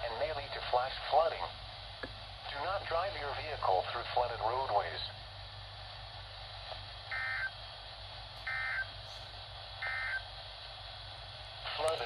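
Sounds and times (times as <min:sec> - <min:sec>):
receiver hum and hiss: 0:00.0 - 0:12.0.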